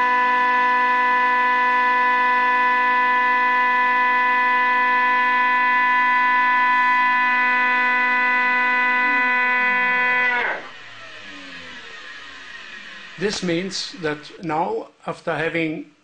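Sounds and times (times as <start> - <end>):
motors spinning down: 0.0 - 14.5
cutting mill whine: 0.0 - 15.0.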